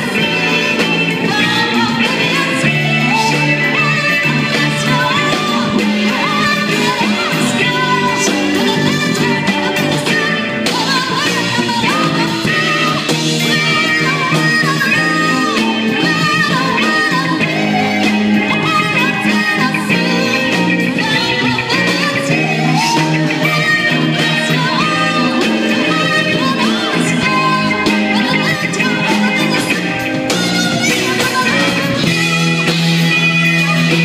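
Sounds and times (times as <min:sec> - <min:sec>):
live band playing: 0:00.0 - 0:34.0
person singing: 0:00.0 - 0:34.0.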